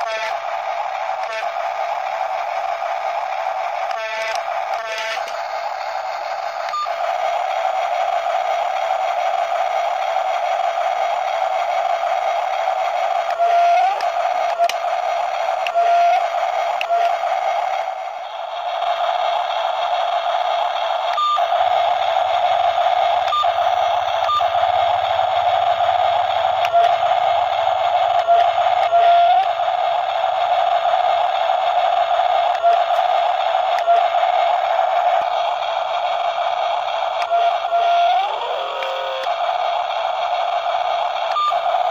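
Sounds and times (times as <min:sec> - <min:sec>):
control clicks and pitch blips: 0:00.0 - 0:07.0, 0:11.2 - 0:18.6, 0:21.0 - 0:41.9
toy electric motors whining: 0:00.0 - 0:41.9.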